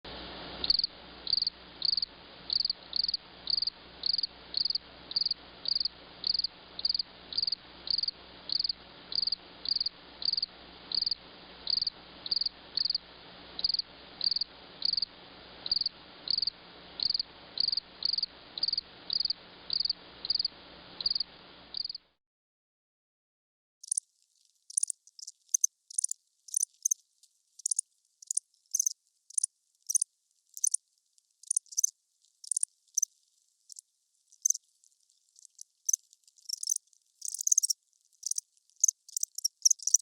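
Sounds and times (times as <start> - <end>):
faint background hum: 0.0 - 22.2, 23.8 - 40.0
cricket chirping: 0.6 - 22.0, 24.7 - 27.0, 27.6 - 30.0, 30.6 - 30.8, 31.4 - 33.1, 33.7 - 34.6, 35.4 - 40.0.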